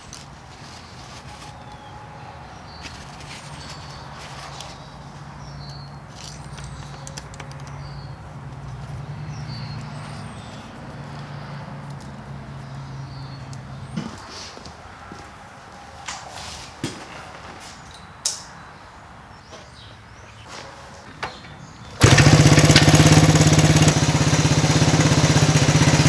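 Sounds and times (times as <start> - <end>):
small birds chirping: 0.0 - 14.7, 17.8 - 26.0.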